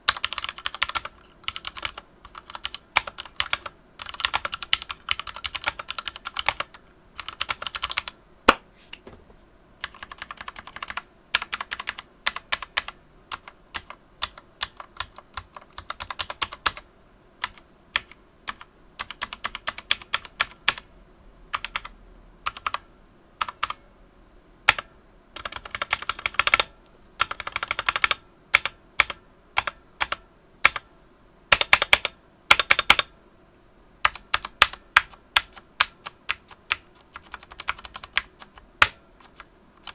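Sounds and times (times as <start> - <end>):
typing on mechanical keyboard: 0.1 - 8.2, 9.8 - 16.8, 17.4 - 20.8, 21.5 - 21.9, 22.5 - 22.8, 23.4 - 23.8, 24.7 - 30.8, 31.5 - 33.1, 34.0 - 39.9.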